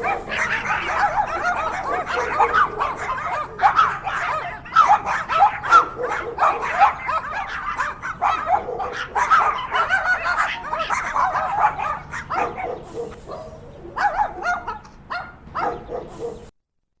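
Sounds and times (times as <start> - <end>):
dog yips: 0.0 - 16.5
dogs barking: 0.0 - 16.5.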